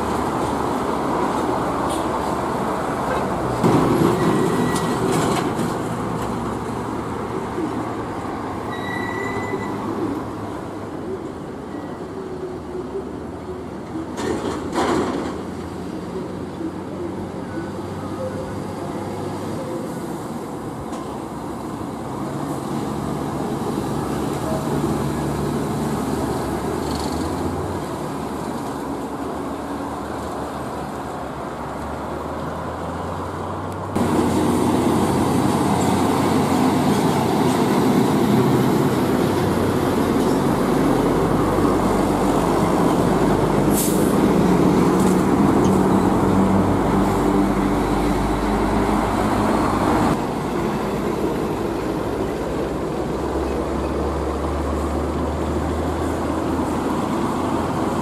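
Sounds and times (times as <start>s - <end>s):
diesel truck engines droning: 0.0s - 58.0s
tyre and road noise: 0.0s - 58.0s.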